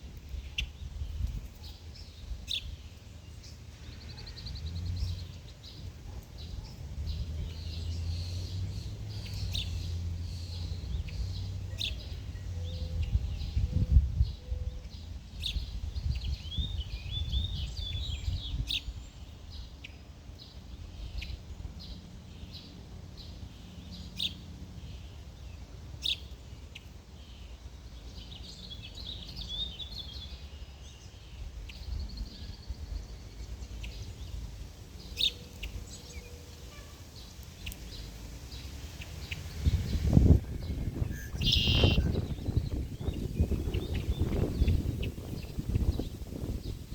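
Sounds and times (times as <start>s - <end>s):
small birds chirping: 0.1s - 46.9s.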